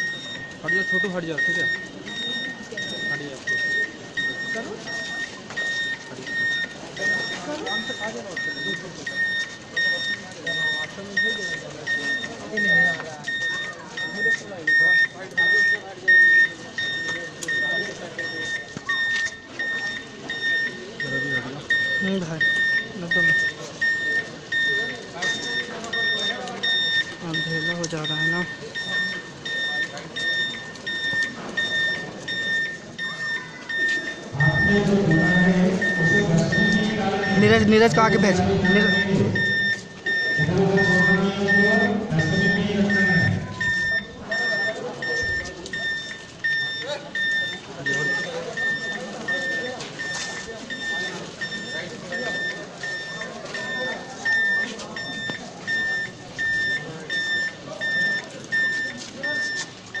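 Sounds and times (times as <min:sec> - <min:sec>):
electronic beeper beeping: 0:00.0 - 1:00.0.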